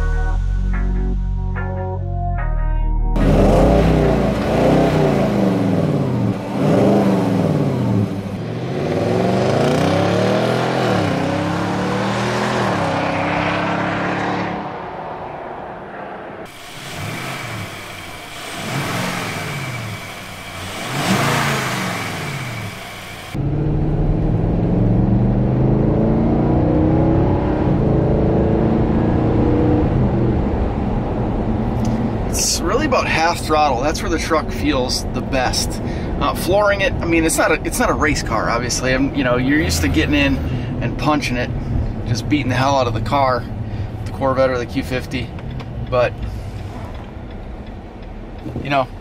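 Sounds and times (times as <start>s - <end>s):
engine accelerating through gears: 3.2s - 49.0s.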